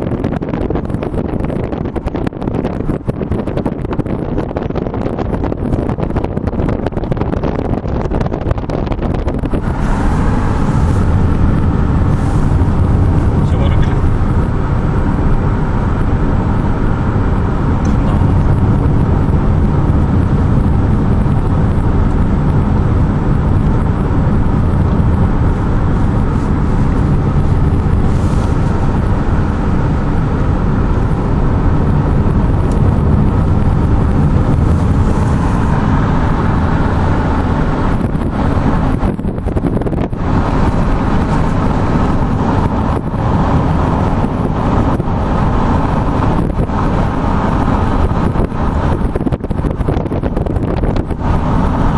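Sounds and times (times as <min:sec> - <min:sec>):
vehicle engine rumble: 0:00.0 - 0:51.9
wind noise: 0:00.0 - 0:51.9.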